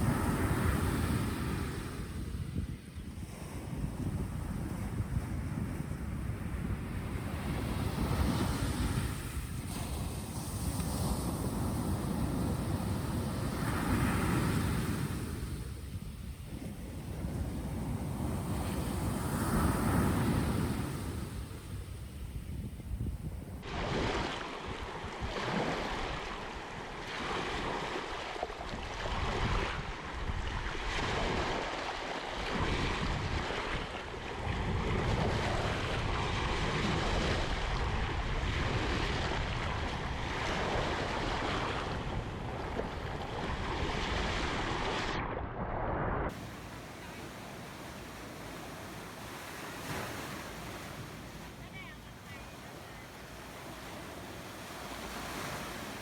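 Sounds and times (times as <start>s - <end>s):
waves breaking on shore: 0.0s - 56.0s.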